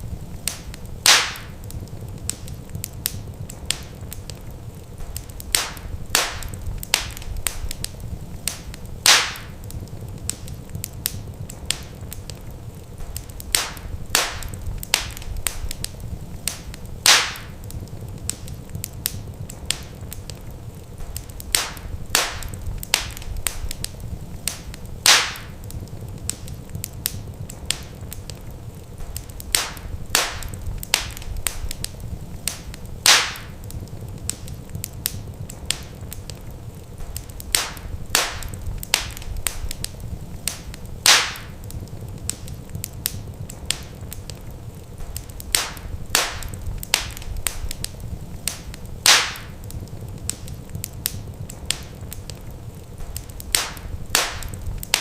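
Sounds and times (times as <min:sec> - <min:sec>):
low steady rumble: 0:00.0 - 0:55.0
sharp pops of fire: 0:00.0 - 0:55.0
wood fire crackling: 0:00.0 - 0:55.0.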